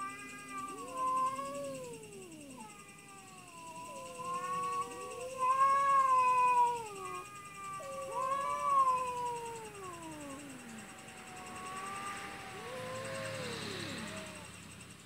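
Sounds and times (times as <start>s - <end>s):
cats yowling: 0.0s - 14.6s.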